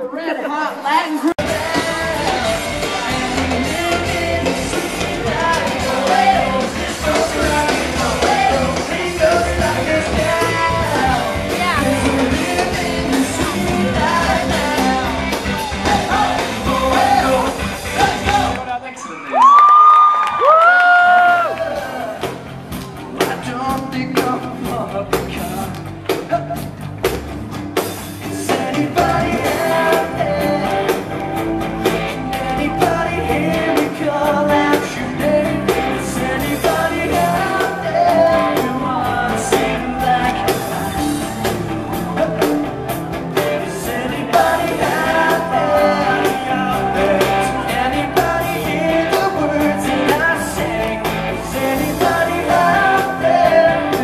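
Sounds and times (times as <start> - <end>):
live rock band playing: 0.0 - 18.8, 20.5 - 54.0
singer singing into microphone: 0.0 - 19.1, 28.3 - 54.0.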